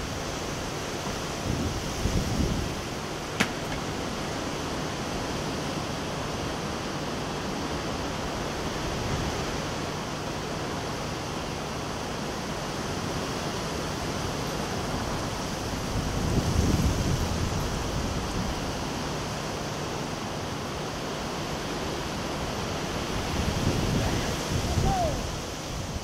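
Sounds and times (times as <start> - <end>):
rushing wind: 0.0 - 26.0.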